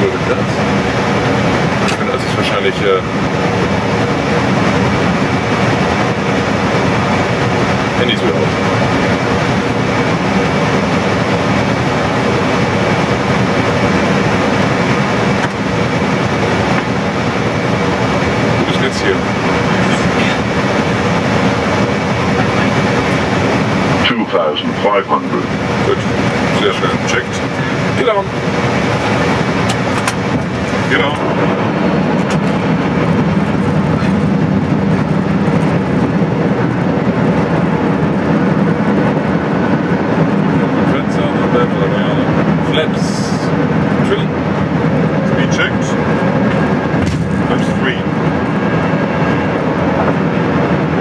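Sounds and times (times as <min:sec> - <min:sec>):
cockpit airflow and engine rush: 0:00.0 - 0:51.0.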